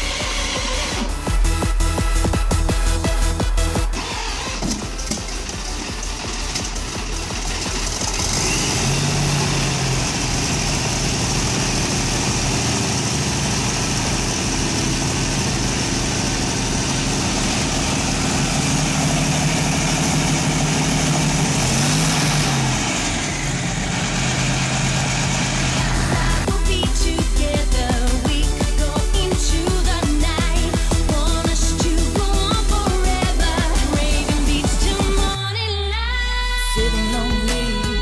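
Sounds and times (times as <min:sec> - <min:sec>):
engine idling: 0:00.0 - 0:35.4.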